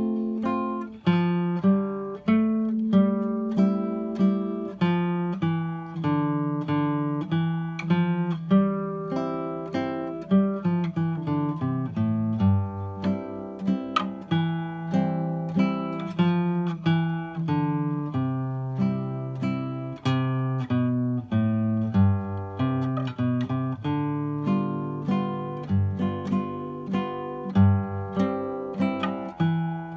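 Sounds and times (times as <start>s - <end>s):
fingerpicked classical guitar: 0.0s - 29.9s.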